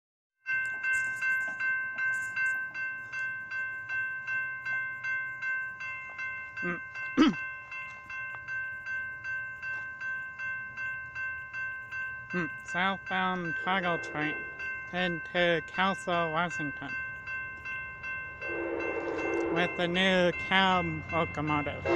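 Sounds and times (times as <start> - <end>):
railroad crossing bell ringing: 0.4 - 21.9.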